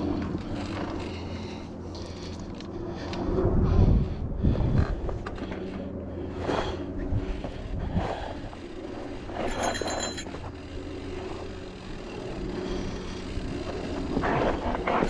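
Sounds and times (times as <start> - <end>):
bike rattling: 0.0 - 15.0
bike tyre and drivetrain rumble: 0.0 - 15.0.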